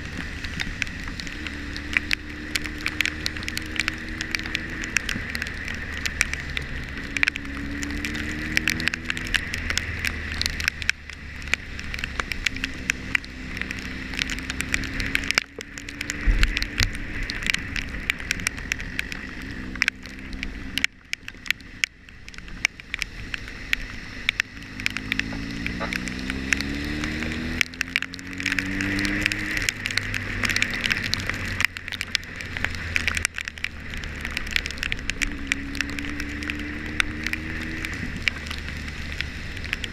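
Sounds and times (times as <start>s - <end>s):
motorcycle engine accelerating: 0.0s - 21.6s, 23.1s - 39.9s
raindrops ticking on microphone: 0.0s - 39.9s.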